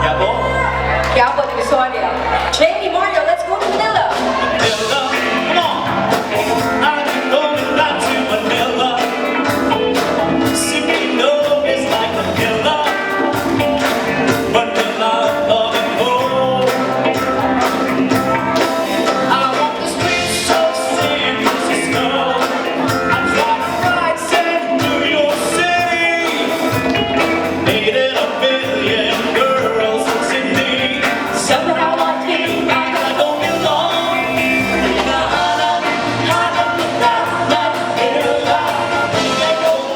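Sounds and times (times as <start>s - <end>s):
person singing live: 0.0s - 2.8s, 3.4s - 39.9s
instrumental accompaniment: 0.0s - 39.9s.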